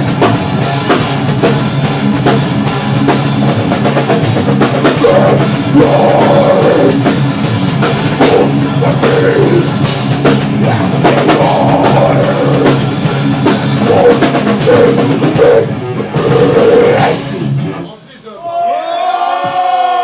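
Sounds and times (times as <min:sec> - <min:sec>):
pounding drums: 0:00.0 - 0:17.7
distorted guitars: 0:00.0 - 0:18.2
metal band playing live: 0:00.0 - 0:18.3.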